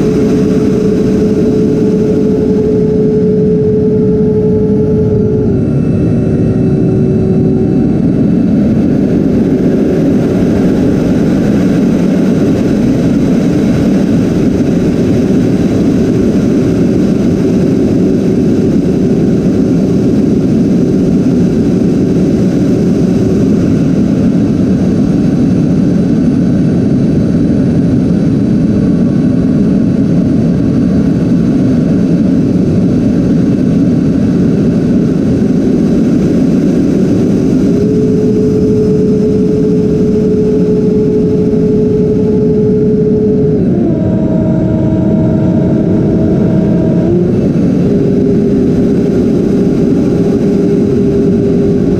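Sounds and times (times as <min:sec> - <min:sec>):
electric ducted fans rushing: 0:00.0 - 0:51.9.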